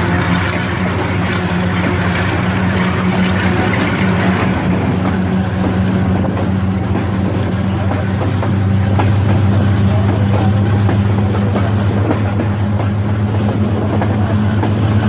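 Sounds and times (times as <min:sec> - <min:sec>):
diesel locomotive engine humming: 0:00.0 - 0:15.0.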